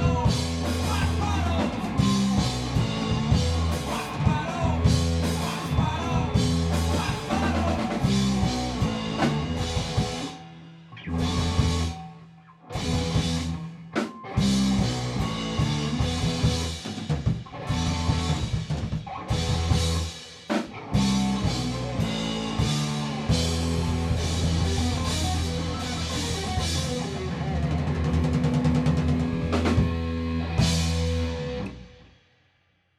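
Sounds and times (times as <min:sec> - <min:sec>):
rock band playing: 0:00.0 - 0:32.2.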